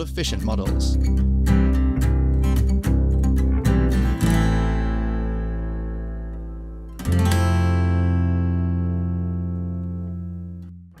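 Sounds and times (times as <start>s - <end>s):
guitar chords ringing: 0.0s - 11.0s.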